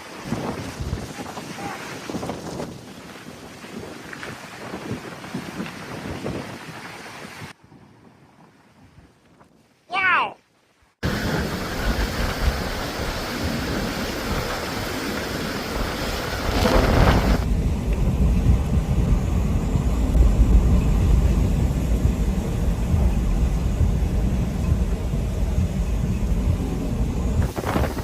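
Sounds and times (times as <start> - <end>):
wind-driven rain hiss: 0.0 - 7.8, 11.0 - 28.0
wind buffeting microphone: 0.0 - 9.6, 11.0 - 28.0.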